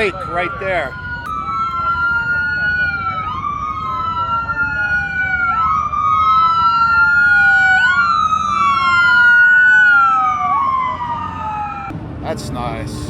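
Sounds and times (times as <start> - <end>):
emergency vehicle sirens wailing: 0.0 - 13.0.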